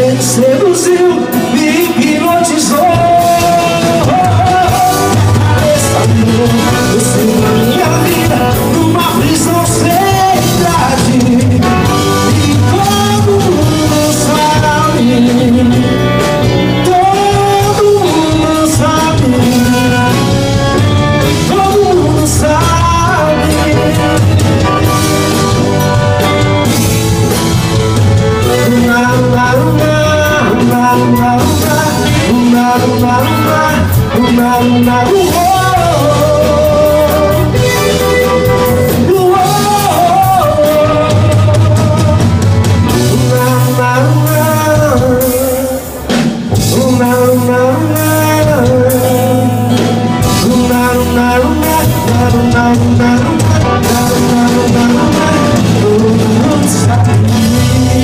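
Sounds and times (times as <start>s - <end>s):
loud band music with drums: 0.0s - 58.0s.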